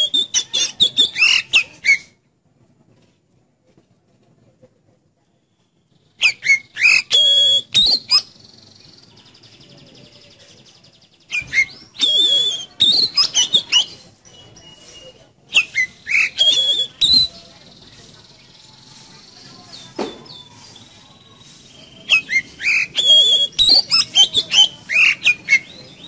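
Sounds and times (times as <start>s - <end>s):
songbird singing: 0.0s - 2.2s, 5.2s - 26.0s.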